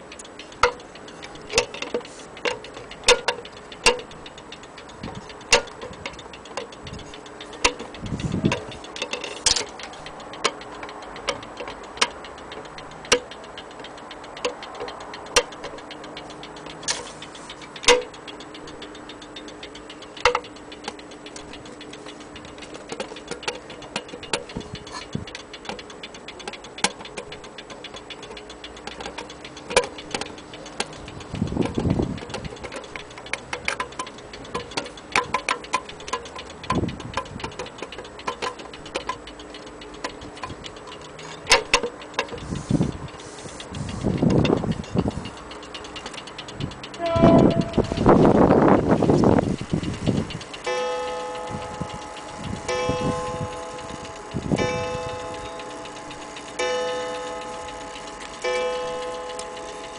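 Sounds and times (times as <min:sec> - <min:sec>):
mantel clock ticking: 0:00.0 - 0:59.9.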